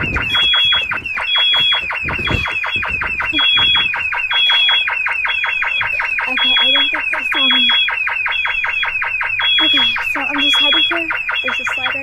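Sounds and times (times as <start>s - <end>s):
fire alarm electronic chirps: 0.0s - 12.0s
high pulsing beep: 0.0s - 12.0s.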